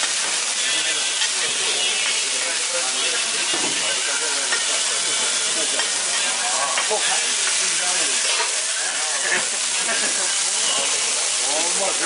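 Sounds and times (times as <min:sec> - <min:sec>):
faint indistinct voices: 0:00.0 - 0:12.0
food sizzling in a pan: 0:00.0 - 0:12.0.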